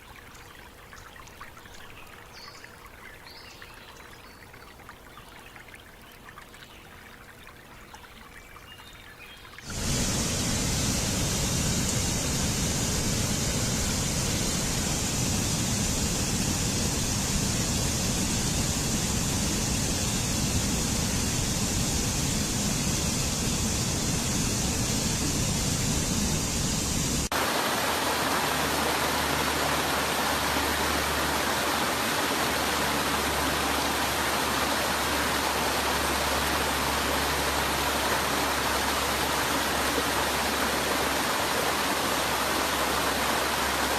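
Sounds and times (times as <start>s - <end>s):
rushing water: 4.0s - 43.9s.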